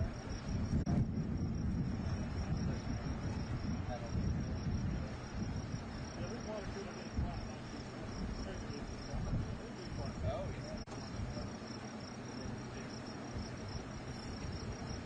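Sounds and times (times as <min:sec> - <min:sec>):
insects chirping: 0:00.0 - 0:15.0
low uneven rumble: 0:00.0 - 0:15.0.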